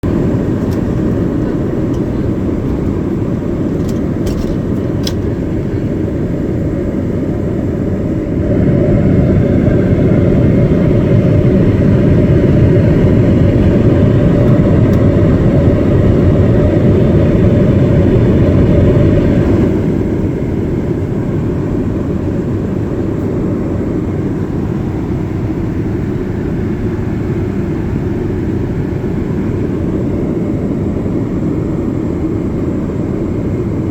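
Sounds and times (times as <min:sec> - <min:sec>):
airplane cabin rush: 0:00.0 - 0:06.5, 0:07.1 - 0:32.7.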